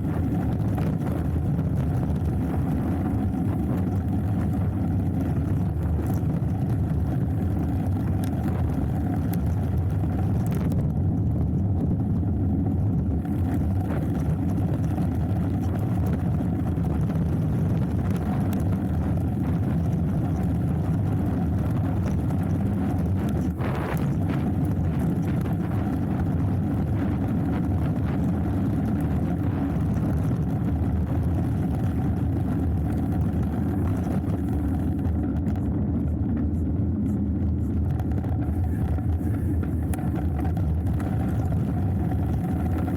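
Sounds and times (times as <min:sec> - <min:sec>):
bike tyre rumble and rattle: 0:00.0 - 0:42.9
wind rushing over microphone: 0:00.0 - 0:42.9.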